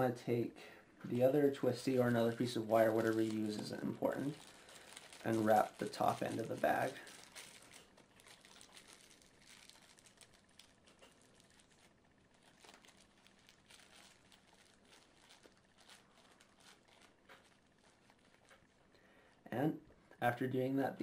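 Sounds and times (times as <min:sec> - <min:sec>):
plastic bag crinkling: 0:01.6 - 0:18.9.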